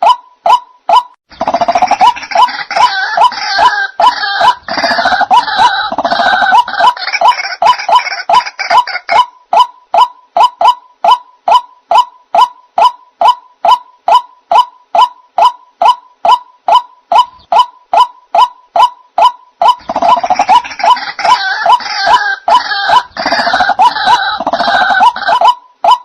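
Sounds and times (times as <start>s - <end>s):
chatter of bird calls: 0.0s - 26.0s
waterhen harsh call: 0.0s - 26.0s.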